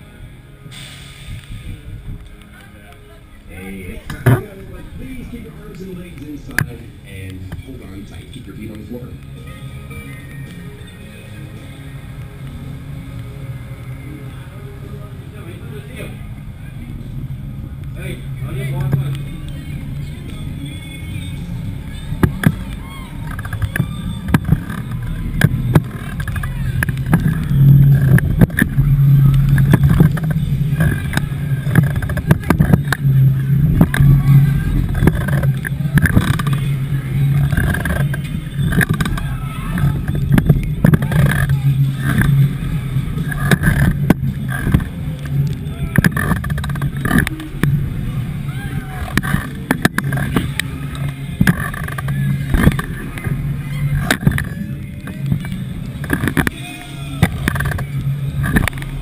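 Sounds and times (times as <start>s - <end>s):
low machine drone: 0.0s - 59.0s.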